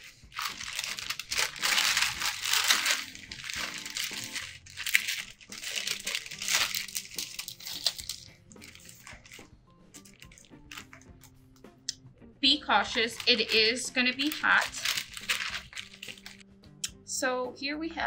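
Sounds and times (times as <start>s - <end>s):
parchment paper crinkling: 0.0s - 11.3s, 12.7s - 16.4s
soft background music: 0.0s - 18.0s.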